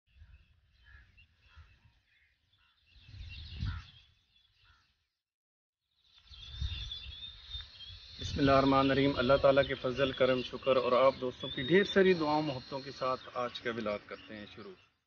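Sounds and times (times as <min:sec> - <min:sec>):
bird chirps: 0:00.1 - 0:05.1, 0:05.9 - 0:15.0.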